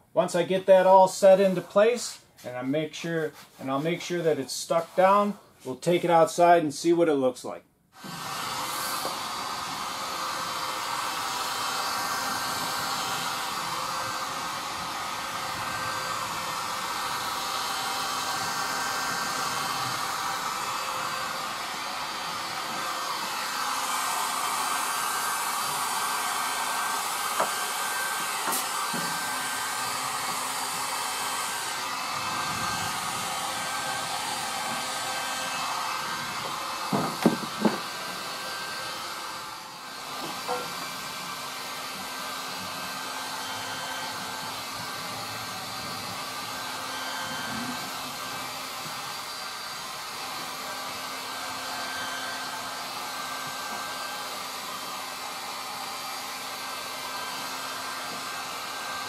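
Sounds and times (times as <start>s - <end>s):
heat gun blowing air: 0.4s - 2.2s, 7.9s - 59.0s.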